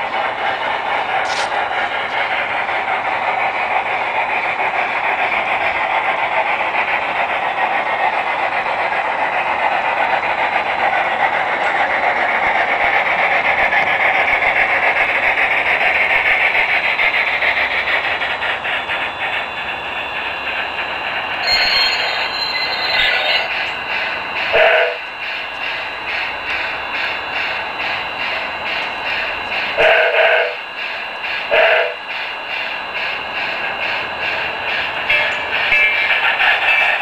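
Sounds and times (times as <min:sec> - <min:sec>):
model steam locomotive running: 0:00.0 - 0:37.0.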